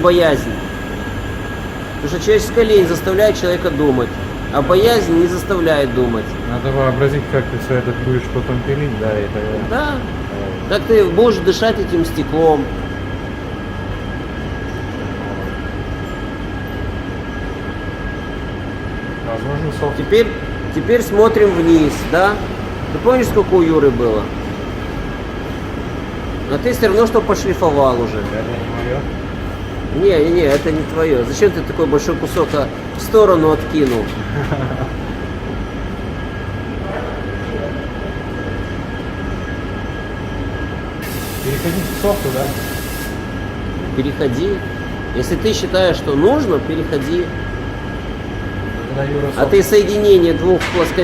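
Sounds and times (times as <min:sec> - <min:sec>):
thin high whine: 0:00.0 - 0:51.0
workshop machinery humming: 0:00.0 - 0:51.0.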